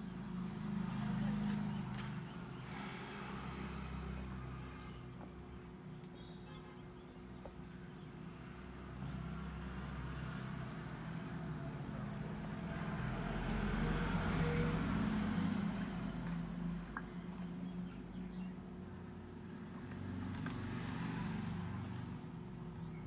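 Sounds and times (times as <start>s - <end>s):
motor vehicle passing: 0.0s - 5.3s, 8.4s - 22.5s.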